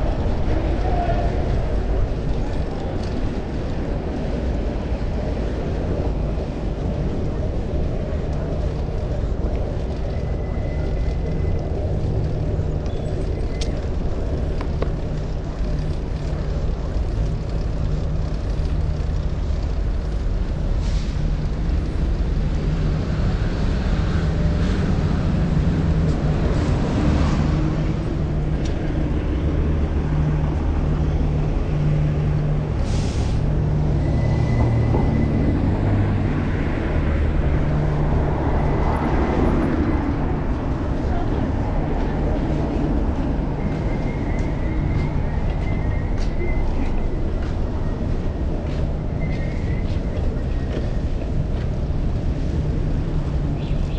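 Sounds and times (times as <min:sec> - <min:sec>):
wind rumbling on microphone: 0:00.0 - 0:53.9.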